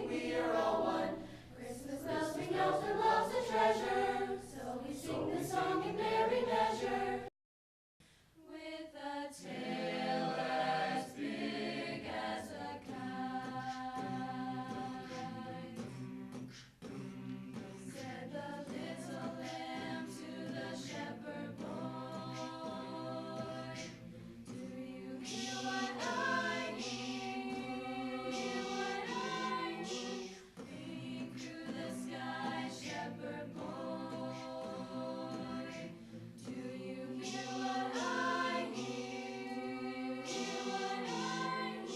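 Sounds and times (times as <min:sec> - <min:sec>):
choir singing: 0:00.0 - 0:07.3, 0:08.4 - 0:41.9.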